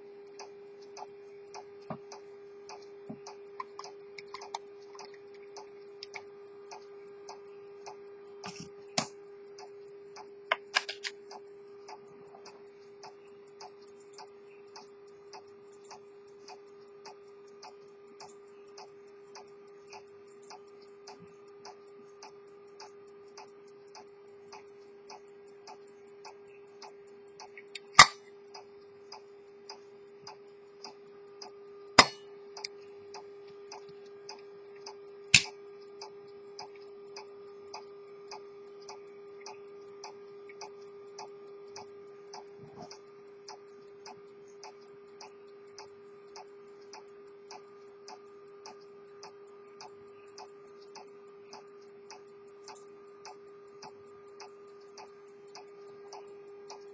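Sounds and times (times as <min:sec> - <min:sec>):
low steady hum: 0:00.0 - 0:56.9
pocket watch ticking: 0:00.2 - 0:56.9.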